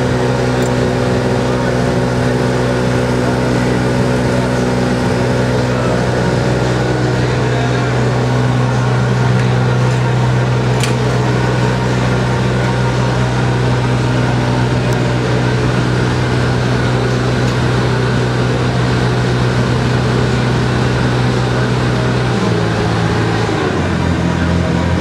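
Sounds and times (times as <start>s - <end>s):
crane engine droning: 0.0s - 25.0s.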